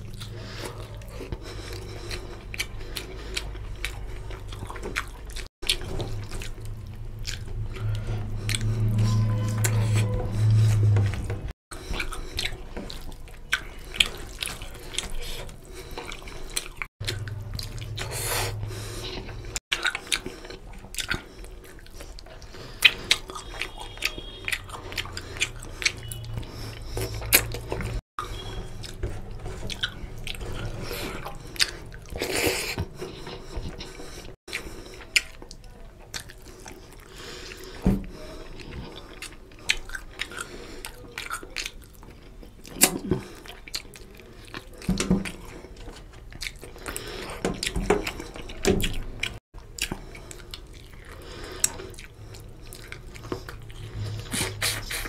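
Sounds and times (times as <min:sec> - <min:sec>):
wet chewing and lip smacking: 0:00.0 - 0:55.0.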